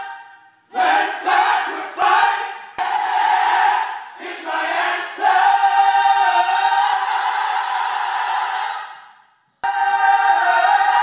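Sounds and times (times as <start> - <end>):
gospel choir singing: 0.0 - 11.0.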